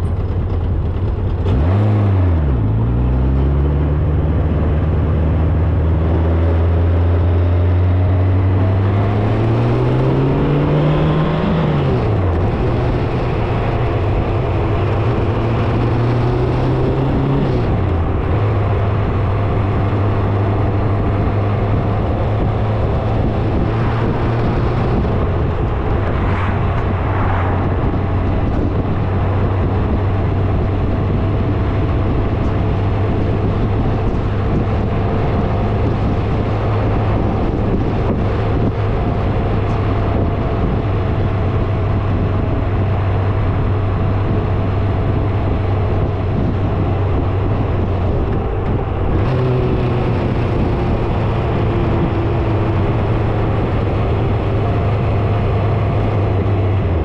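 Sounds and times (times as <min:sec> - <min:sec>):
road noise: 0:00.0 - 0:57.0
vehicle engine accelerating: 0:00.0 - 0:57.0.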